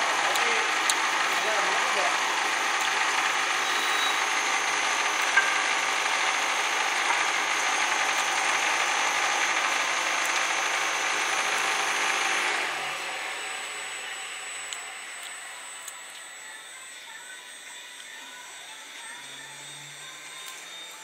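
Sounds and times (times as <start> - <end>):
wood lathe cutting: 0.0 - 21.0
thin high whine: 1.4 - 21.0.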